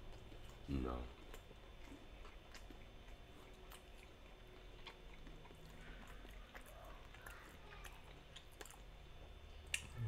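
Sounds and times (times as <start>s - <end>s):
crunchy chewing: 0.0s - 10.0s.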